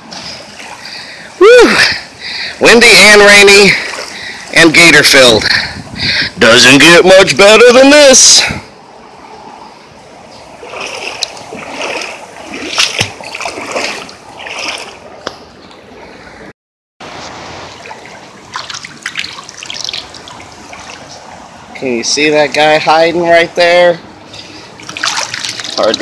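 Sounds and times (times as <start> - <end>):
water splashing and sloshing: 0.0 - 6.1, 8.8 - 21.8, 23.6 - 26.0.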